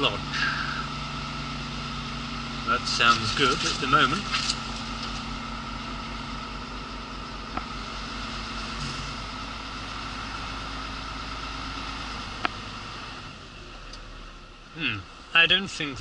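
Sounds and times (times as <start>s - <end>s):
diesel lorry engine running: 0.0s - 16.0s.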